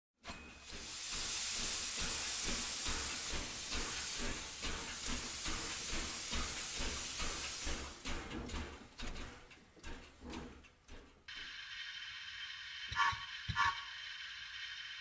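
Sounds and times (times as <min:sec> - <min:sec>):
steam locomotive hissing: 0:00.3 - 0:09.4, 0:11.3 - 0:15.0.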